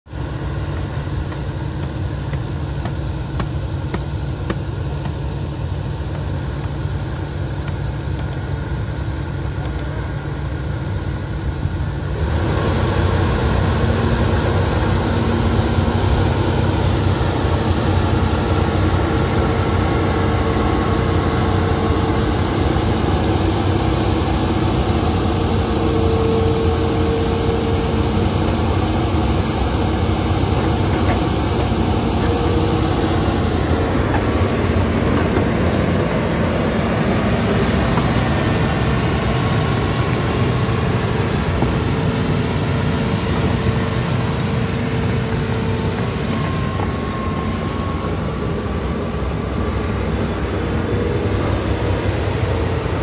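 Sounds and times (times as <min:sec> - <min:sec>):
excavator diesel engine revving: 0:00.1 - 0:53.0.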